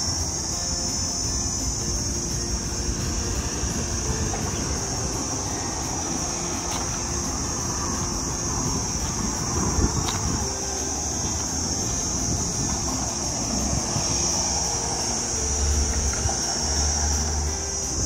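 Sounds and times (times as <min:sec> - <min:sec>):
insects chorus: 0:00.0 - 0:18.0
low steady rumble: 0:00.0 - 0:18.0.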